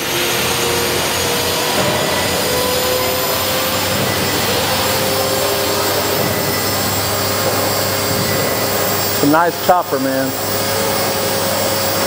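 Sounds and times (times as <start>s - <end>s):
model helicopter motor whine: 0.0s - 12.0s
spinning rotor rushing: 0.0s - 12.0s.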